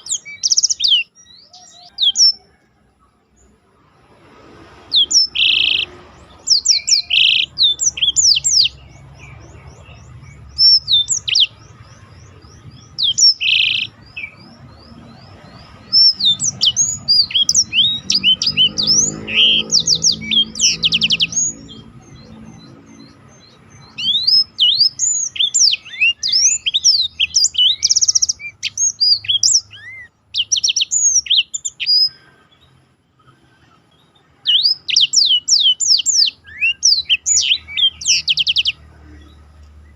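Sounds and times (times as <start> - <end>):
canary singing: 0.0 - 32.9, 33.5 - 39.9.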